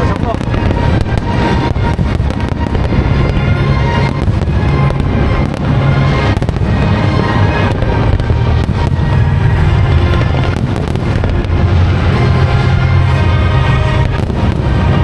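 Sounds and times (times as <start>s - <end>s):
fireworks bursting: 0.0s - 15.0s
loud music: 0.0s - 15.0s.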